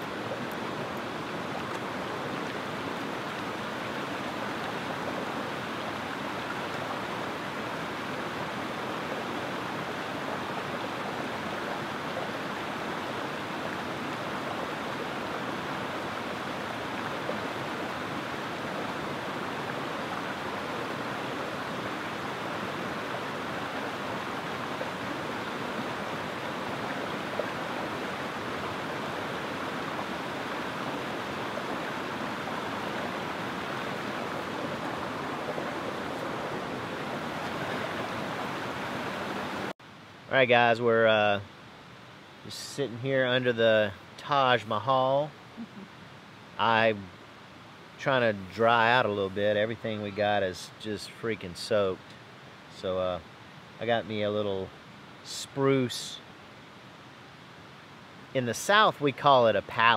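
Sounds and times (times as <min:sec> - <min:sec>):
creek water rushing over stones: 0:00.0 - 0:59.9.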